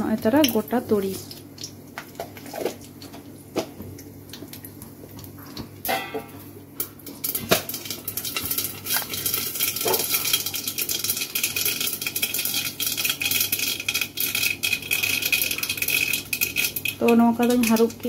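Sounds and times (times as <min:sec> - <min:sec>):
food frying in hot oil: 0:00.0 - 0:18.0.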